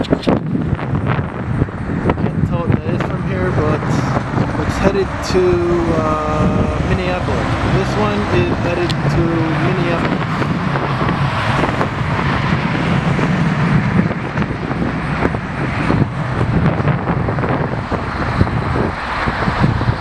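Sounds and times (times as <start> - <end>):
vehicle rumble: 0.0 - 20.0
wind buffeting microphone: 0.0 - 20.0.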